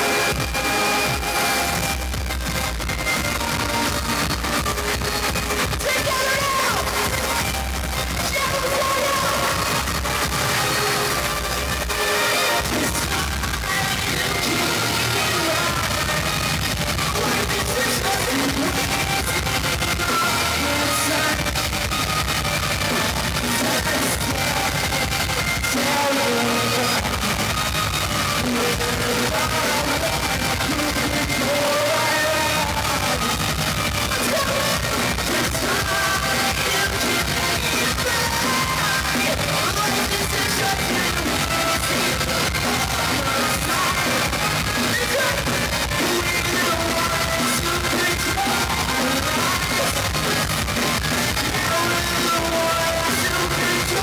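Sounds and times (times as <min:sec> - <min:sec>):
loud live rock music: 0:00.0 - 0:54.0
sung and shouted vocals: 0:00.0 - 0:54.0.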